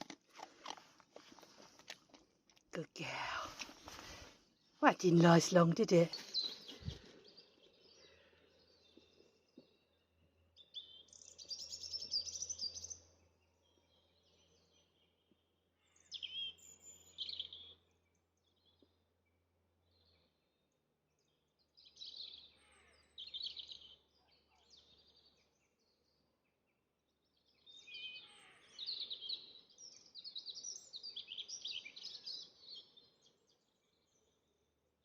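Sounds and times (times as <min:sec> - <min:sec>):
songbird singing: 0:02.6 - 0:34.8.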